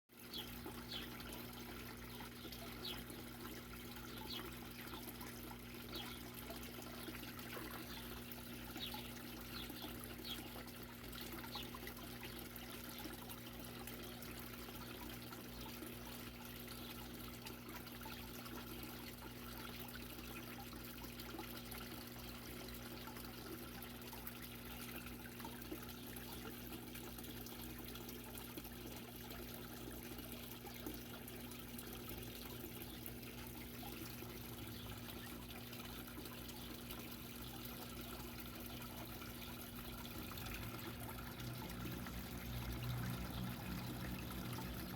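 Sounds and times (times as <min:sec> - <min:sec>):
water trickling: 0:00.1 - 0:44.9.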